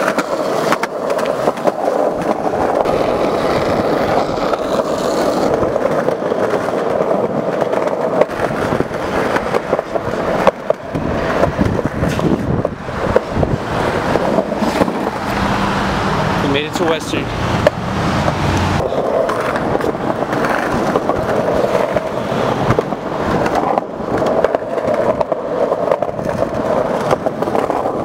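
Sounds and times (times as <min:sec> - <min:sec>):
skateboard clacking over joints: 0:00.0 - 0:15.4, 0:17.6 - 0:28.0
skateboard wheels rolling on concrete: 0:00.0 - 0:28.0.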